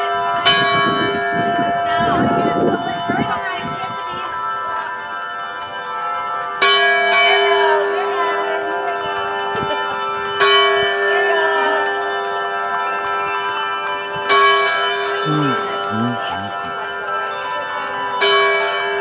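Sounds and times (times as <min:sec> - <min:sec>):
church bell ringing: 0:00.0 - 0:15.9.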